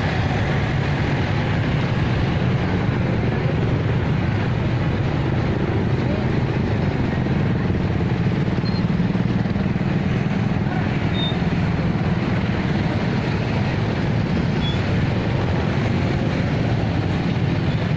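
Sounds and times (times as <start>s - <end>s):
passenger train rumbling by: 0.0s - 17.9s.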